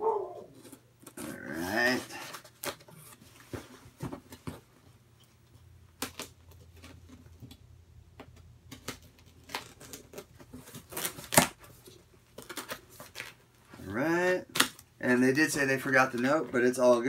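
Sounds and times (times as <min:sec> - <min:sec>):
cardboard and tape rustling: 0:00.4 - 0:17.0.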